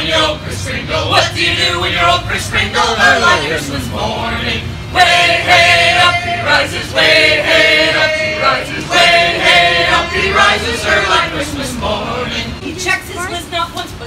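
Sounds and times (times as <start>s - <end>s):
mixed choir singing a cappella: 0.0s - 12.6s.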